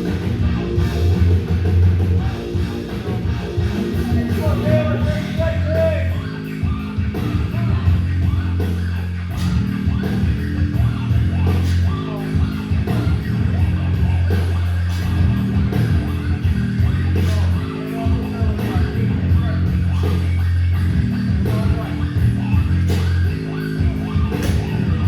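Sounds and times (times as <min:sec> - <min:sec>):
loud rock music: 0:00.0 - 0:25.0.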